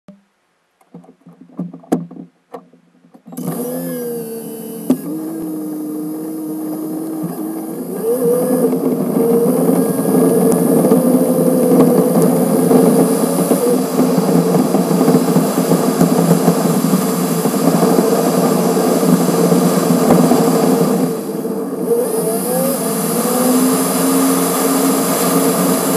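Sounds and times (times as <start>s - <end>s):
car engine: 0.8s - 25.9s
tyre and wind noise: 0.8s - 25.9s.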